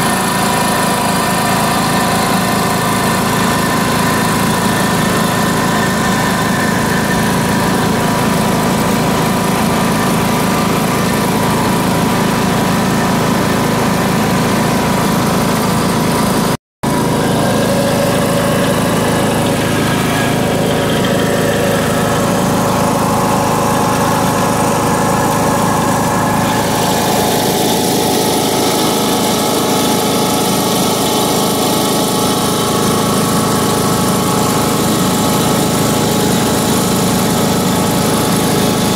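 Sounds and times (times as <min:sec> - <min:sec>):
riding mower engine running: 0:00.0 - 0:38.9.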